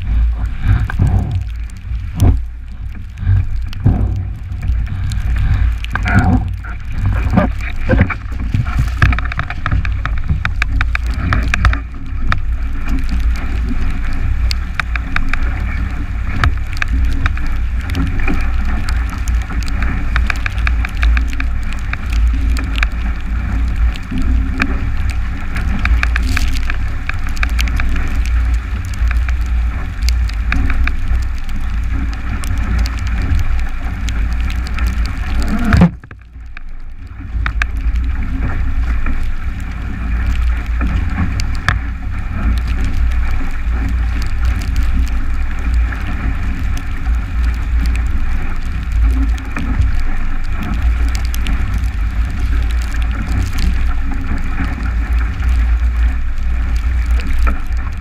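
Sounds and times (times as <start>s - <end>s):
water rushing past hull: 0.0s - 58.0s
wind buffeting microphone: 0.0s - 58.0s.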